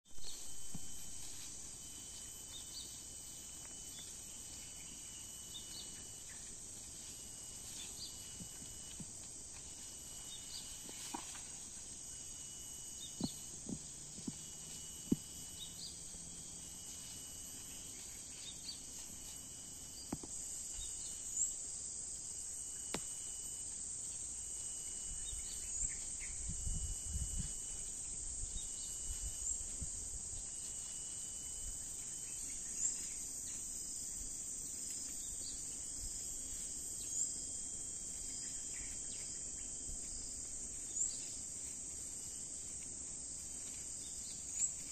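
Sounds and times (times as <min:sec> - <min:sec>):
insects chorus: 0:00.0 - 0:44.9
faint chirps: 0:00.1 - 0:42.8.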